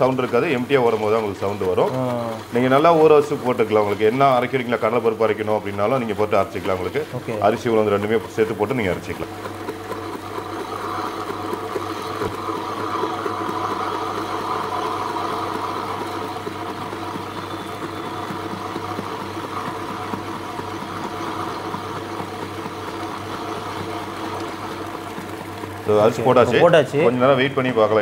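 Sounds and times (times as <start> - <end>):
wet grinder motor humming: 0.0 - 28.0.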